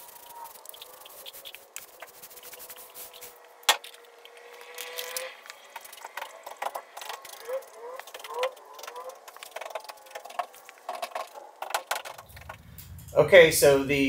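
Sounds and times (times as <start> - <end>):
steady high squeak: 0.0 - 3.4, 5.4 - 13.4
paint roller rolling: 0.0 - 12.6
brush scraping and clicking: 0.0 - 13.0.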